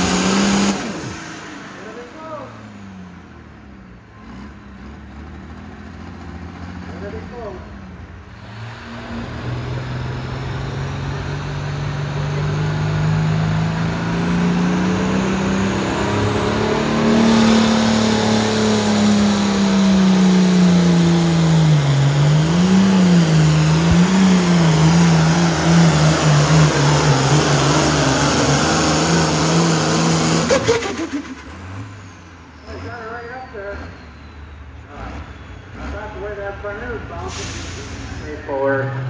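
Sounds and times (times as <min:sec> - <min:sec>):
diesel engine at full throttle: 0:00.0 - 0:39.0.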